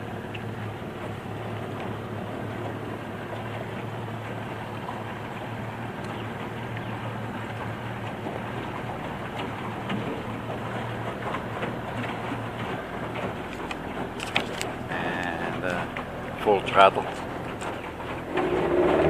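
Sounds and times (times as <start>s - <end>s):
outboard motor running: 0.0s - 19.0s
water patter against hull: 0.0s - 19.0s.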